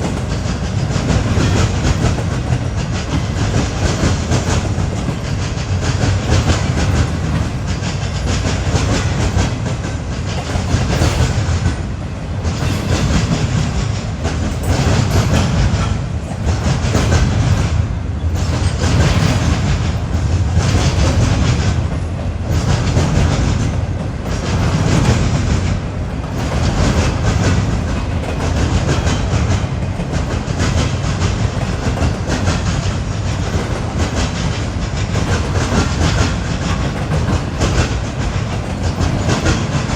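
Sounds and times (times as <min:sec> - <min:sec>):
heavy train rumble: 0:00.0 - 0:39.9
train wheels clacking on rails: 0:00.0 - 0:39.9.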